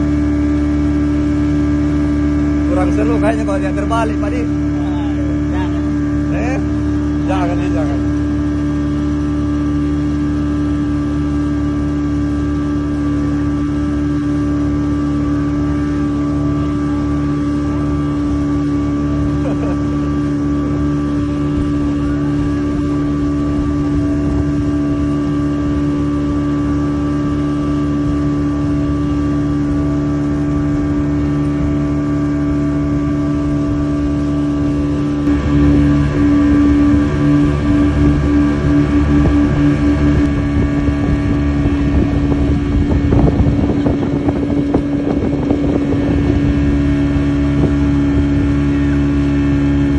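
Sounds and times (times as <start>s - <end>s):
outboard motor droning: 0.0s - 49.9s.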